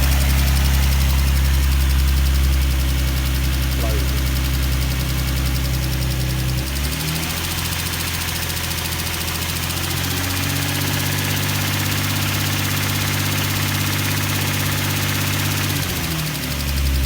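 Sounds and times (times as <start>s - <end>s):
car engine idling: 0.0s - 17.0s
engine ticking: 0.0s - 17.0s.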